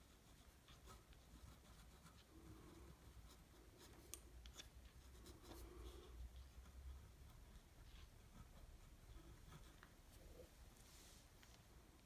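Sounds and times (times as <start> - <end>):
pen scratching on paper: 0.0 - 10.5.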